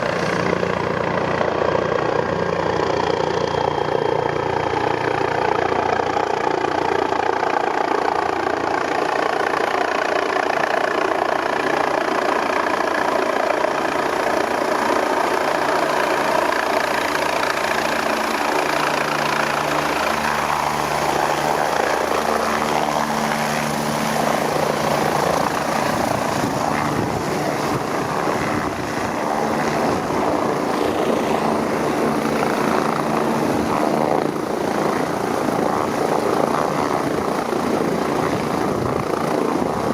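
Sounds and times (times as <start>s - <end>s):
helicopter engine whine and rotor: 0.0s - 39.9s.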